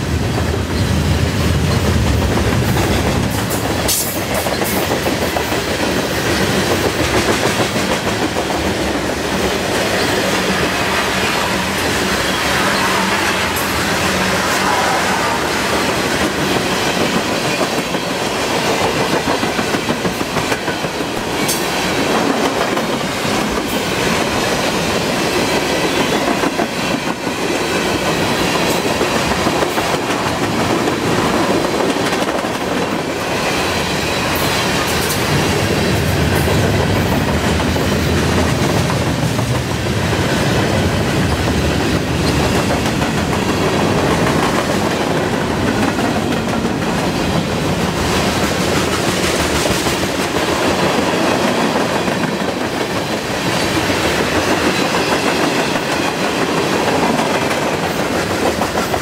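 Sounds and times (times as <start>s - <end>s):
clickety-clack over rail joints: 0.0s - 12.0s, 15.9s - 59.0s
train wheels rumbling on rails: 0.0s - 59.0s.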